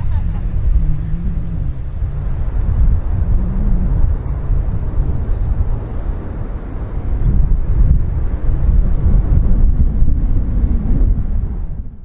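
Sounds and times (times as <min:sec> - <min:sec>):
distant jet engines rumbling: 0:00.0 - 0:12.0
wind buffeting microphone: 0:00.0 - 0:12.0.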